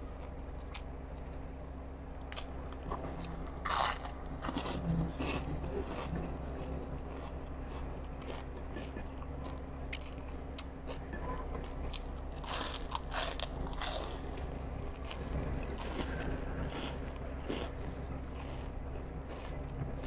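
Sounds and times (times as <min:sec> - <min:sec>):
person crunching crispy food: 0:02.4 - 0:20.0.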